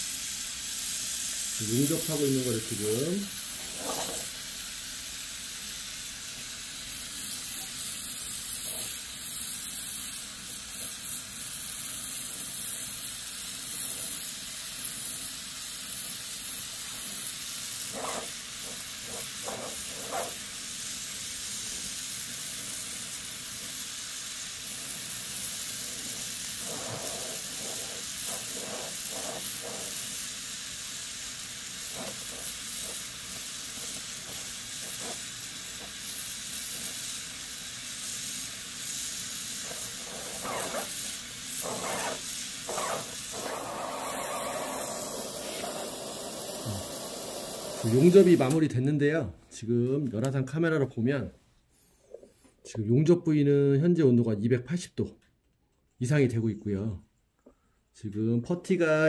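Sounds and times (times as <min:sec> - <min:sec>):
gas torch hissing: 0:00.0 - 0:49.0.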